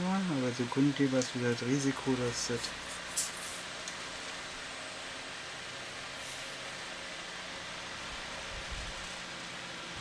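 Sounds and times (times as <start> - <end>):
electric fan hissing: 0.0 - 10.0.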